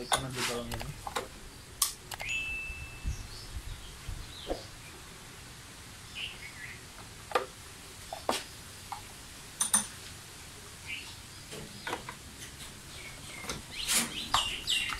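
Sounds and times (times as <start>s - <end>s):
birds chirping faintly: 0.0s - 14.9s.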